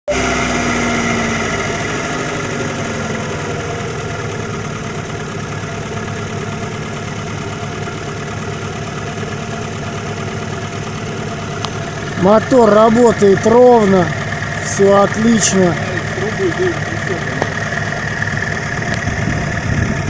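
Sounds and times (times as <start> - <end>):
car engine idling: 0.1 - 20.0.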